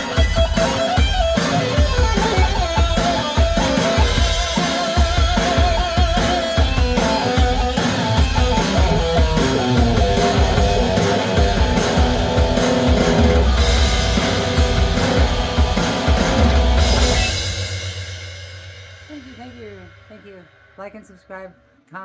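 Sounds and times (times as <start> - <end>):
electric guitar rock melody: 0.0 - 18.1
drum kit beat: 0.0 - 21.2.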